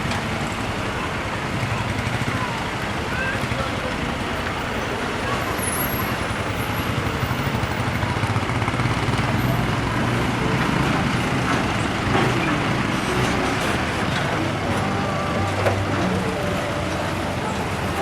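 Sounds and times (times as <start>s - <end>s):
large vehicle engines humming: 0.0s - 18.0s
steady road traffic: 0.0s - 18.0s.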